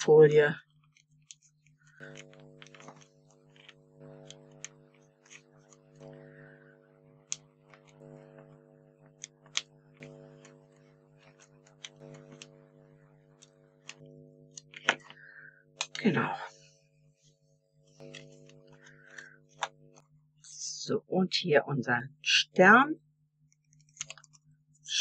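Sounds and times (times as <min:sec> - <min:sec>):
soft hum of sustained tones: 0:00.0 - 0:25.0.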